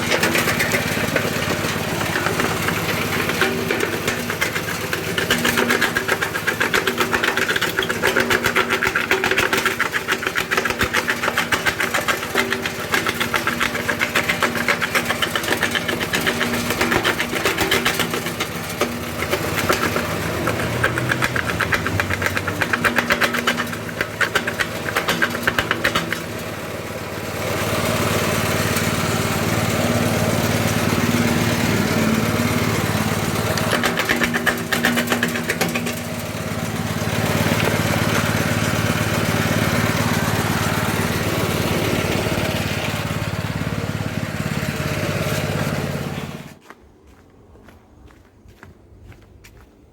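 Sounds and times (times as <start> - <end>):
stone crusher machine clattering: 0.0 - 26.7, 27.9 - 44.0.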